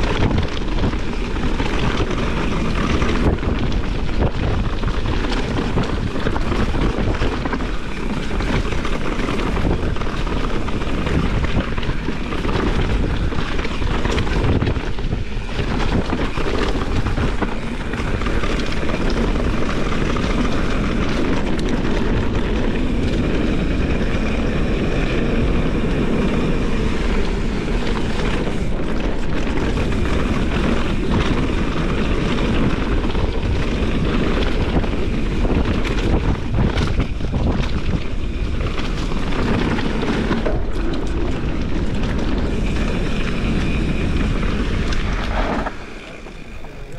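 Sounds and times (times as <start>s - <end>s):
bike rattling over rough ground: 0.0s - 46.9s
wind rush on microphone: 0.0s - 46.9s.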